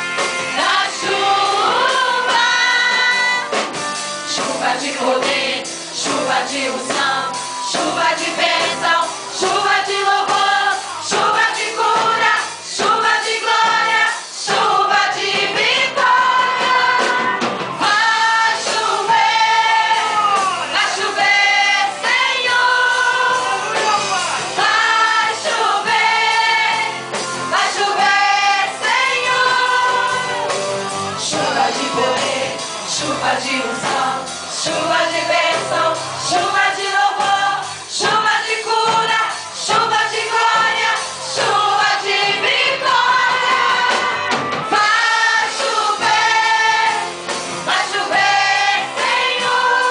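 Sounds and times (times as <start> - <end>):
group singing a gospel song: 0.0 - 49.9
musical accompaniment: 0.0 - 49.9.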